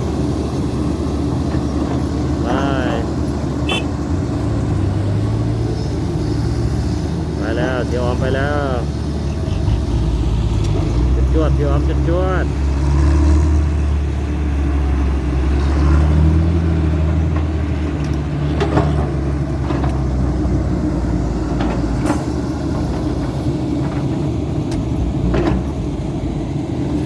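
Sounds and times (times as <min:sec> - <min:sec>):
heavy diesel machinery droning: 0:00.0 - 0:27.0.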